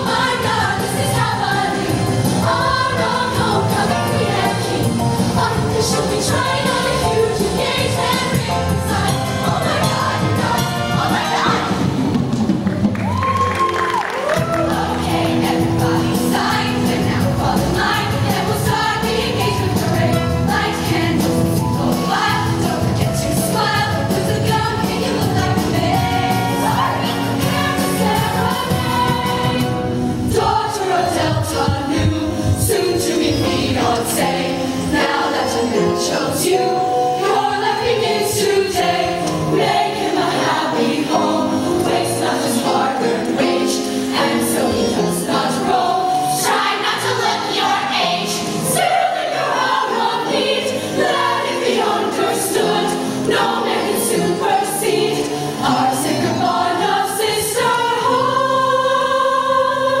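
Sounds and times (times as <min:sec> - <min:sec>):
choir singing in harmony: 0:00.0 - 0:12.6, 0:14.2 - 1:00.0.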